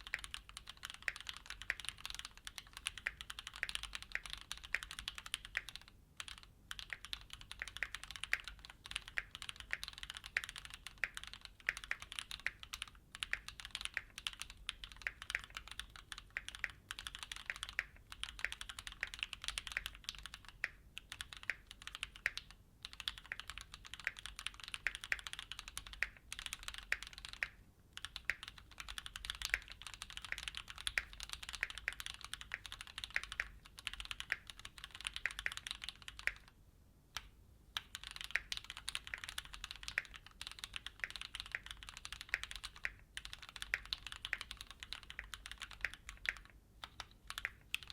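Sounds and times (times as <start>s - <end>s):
mechanical keyboard typing: 0.0s - 36.6s, 37.2s - 47.9s.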